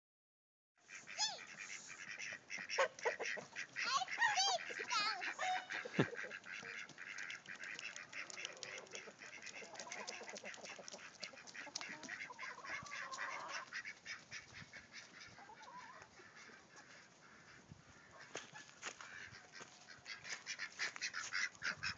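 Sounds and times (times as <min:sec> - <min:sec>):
ducks quacking and honking: 0:00.8 - 0:21.9.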